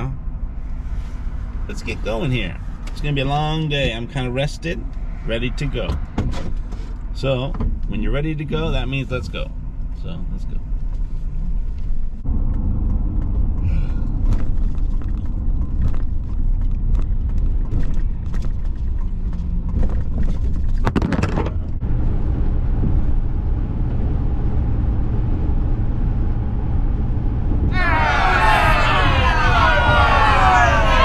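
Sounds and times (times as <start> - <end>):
vehicle engine and road rumble: 0.0 - 31.0.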